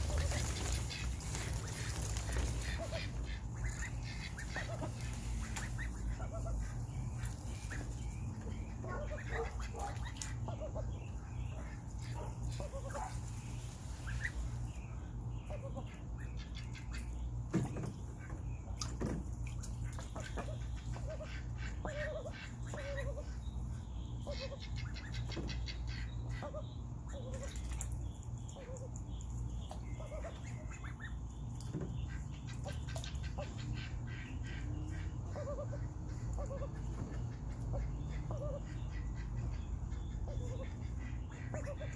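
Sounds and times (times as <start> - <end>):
ducks calling softly: 0.0 - 41.9
steady low hum: 0.0 - 41.9.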